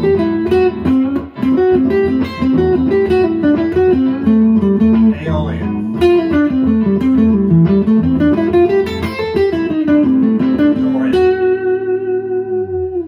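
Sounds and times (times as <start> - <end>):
electric guitar solo: 0.0 - 13.0.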